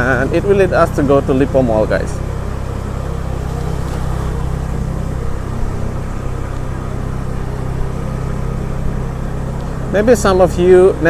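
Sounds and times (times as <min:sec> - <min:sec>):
motorbike engine humming: 0:00.0 - 0:11.0
road and wind noise: 0:00.0 - 0:11.0.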